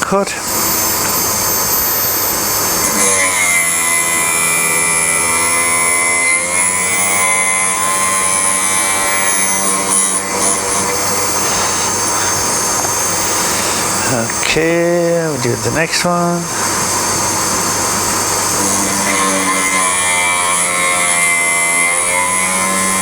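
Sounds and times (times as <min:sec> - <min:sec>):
grinder running: 0:00.0 - 0:23.0
pitched grinding note: 0:00.0 - 0:23.0.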